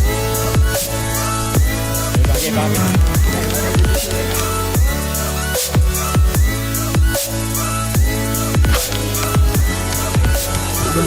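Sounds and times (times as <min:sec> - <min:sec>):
deep kick drums: 0:00.0 - 0:07.2, 0:08.0 - 0:11.0
held synth chords: 0:00.0 - 0:11.0.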